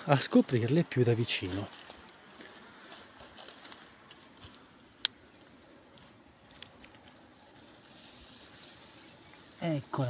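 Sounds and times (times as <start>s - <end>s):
hand rustling through grass: 0.3s - 10.0s.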